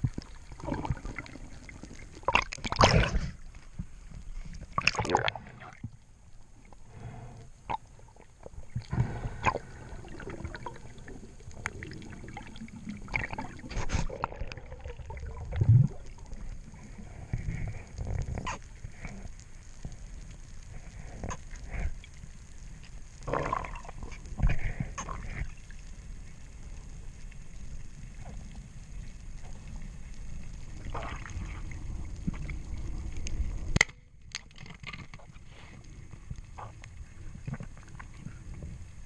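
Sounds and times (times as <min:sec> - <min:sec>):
water gurgling and sloshing: 0:00.0 - 0:39.0.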